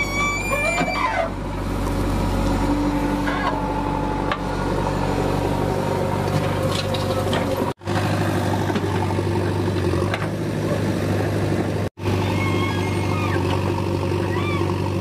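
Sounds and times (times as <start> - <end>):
backhoe digging and dumping soil: 0.0 - 15.0
diesel engine running: 0.0 - 15.0.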